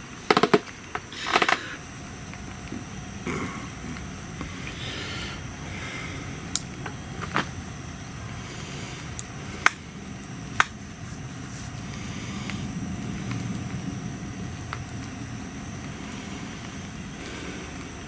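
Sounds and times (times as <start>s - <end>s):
low steady rumble: 0.0s - 18.0s
bonfire crackling and popping: 0.1s - 18.0s.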